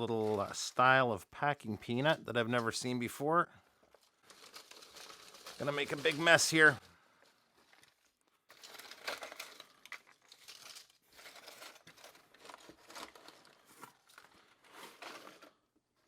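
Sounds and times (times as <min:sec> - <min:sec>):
packing peanuts rustling: 0:00.0 - 0:00.9, 0:03.8 - 0:15.8.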